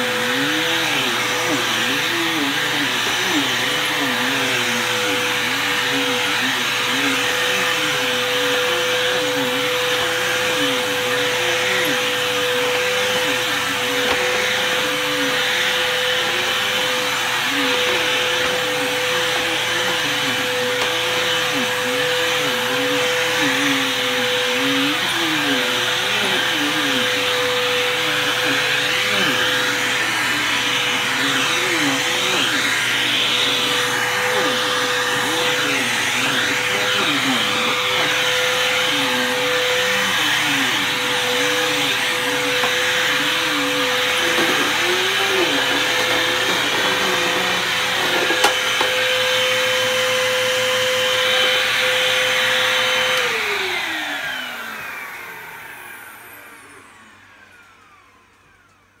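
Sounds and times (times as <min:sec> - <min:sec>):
upright vacuum cleaner running: 0:00.0 - 0:59.0
vacuum motor winding down: 0:00.0 - 0:59.0.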